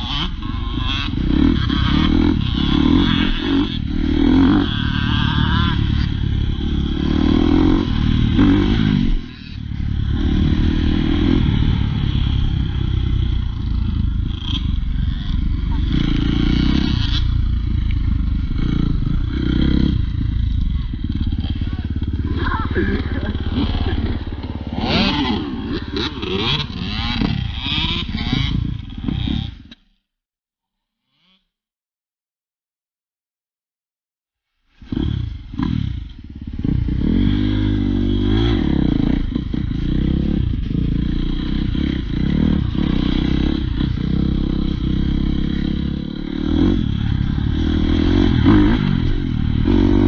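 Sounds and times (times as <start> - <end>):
dirt bike engine revving: 0.0 - 29.8, 34.8 - 50.0.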